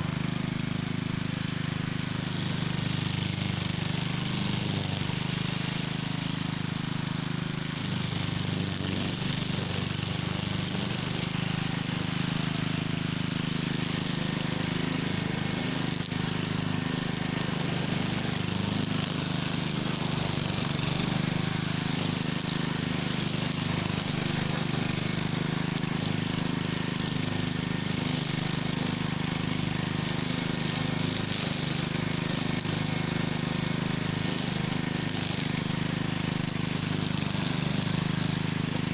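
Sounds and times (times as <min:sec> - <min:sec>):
string trimmer engine running: 0:00.0 - 0:38.9
trimmer line cutting weeds: 0:00.0 - 0:38.9.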